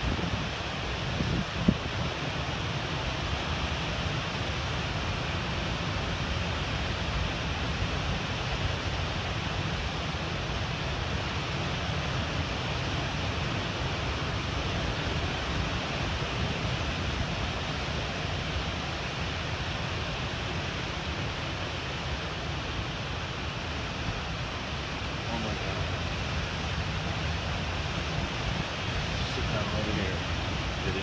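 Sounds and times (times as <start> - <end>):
ocean surf breaking: 0.0 - 31.0
wind rumbling on microphone: 0.0 - 31.0.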